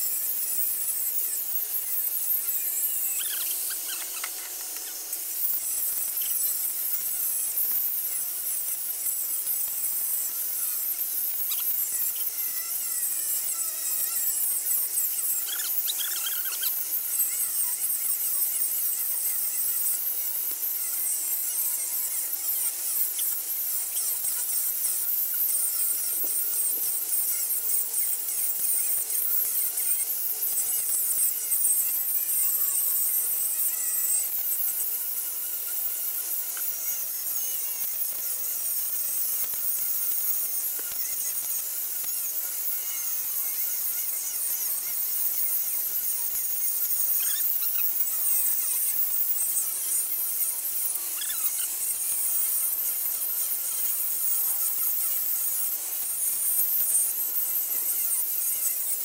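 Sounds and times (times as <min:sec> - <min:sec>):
angle grinder grinding metal: 0:00.0 - 0:59.0.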